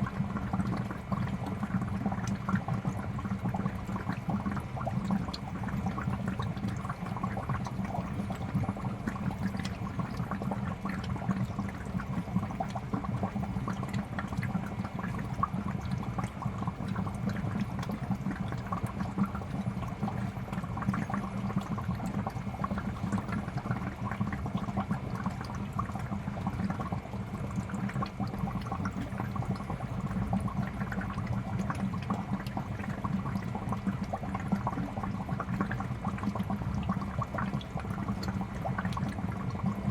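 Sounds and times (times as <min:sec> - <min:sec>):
aquarium bubbles gurgling: 0:00.0 - 0:39.9.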